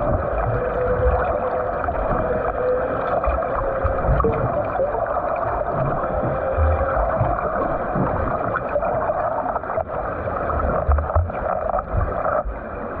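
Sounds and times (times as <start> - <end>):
low thumps of swim strokes: 0.0 - 13.0
water churning and splashing: 0.0 - 13.0.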